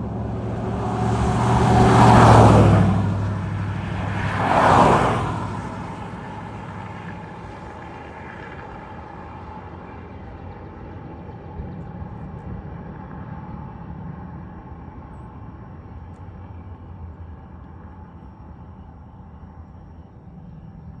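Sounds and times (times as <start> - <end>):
road vehicle rumbling: 0.0 - 21.0.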